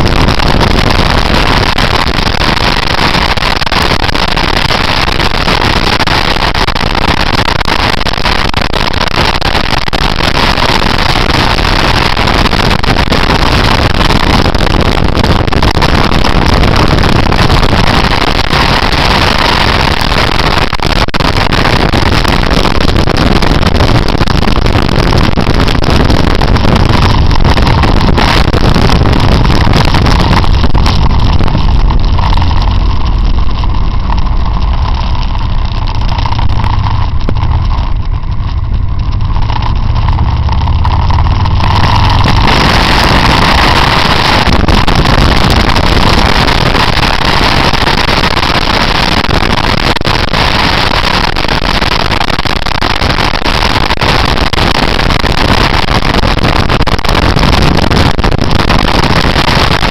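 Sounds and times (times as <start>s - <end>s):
motorcycle engine drone: 0.0s - 59.9s
wind and road noise: 0.0s - 59.9s.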